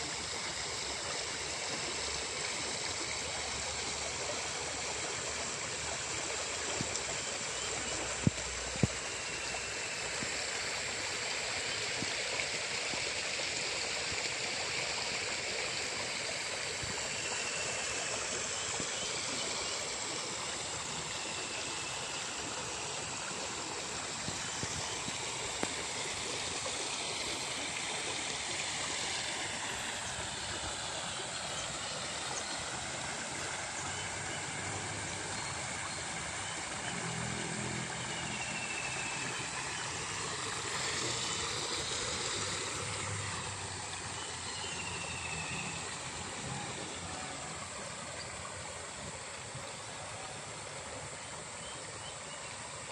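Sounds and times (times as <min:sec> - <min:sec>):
water rushing in a ditch: 0:00.0 - 0:52.9.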